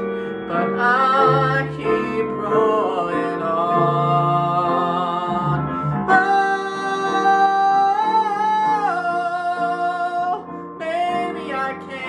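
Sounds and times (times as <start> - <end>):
recorded accompaniment: 0.0 - 12.0
man singing show tune: 0.4 - 12.0.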